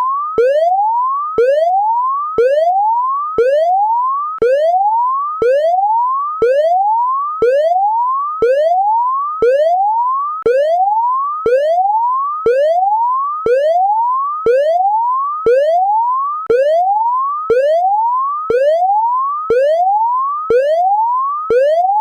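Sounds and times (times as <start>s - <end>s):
electronic whoop alarm: 0.0s - 22.0s.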